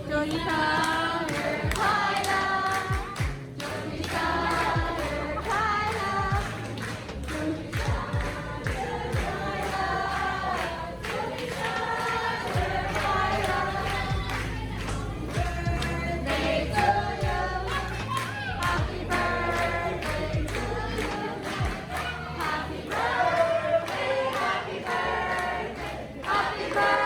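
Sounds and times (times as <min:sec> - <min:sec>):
voices singing together: 0:00.0 - 0:27.0
light beat: 0:00.1 - 0:23.1.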